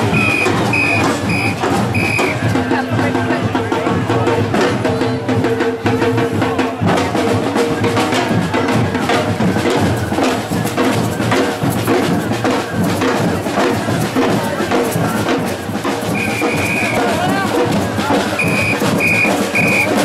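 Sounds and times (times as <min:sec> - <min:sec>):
crowd voices: 0:00.0 - 0:20.0
marching band bass and snare drums: 0:00.0 - 0:20.0.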